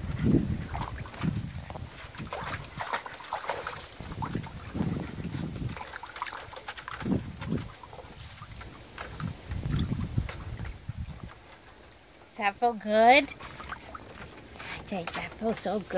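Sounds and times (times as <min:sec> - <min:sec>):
water splashing in a pool: 0:00.0 - 0:15.9.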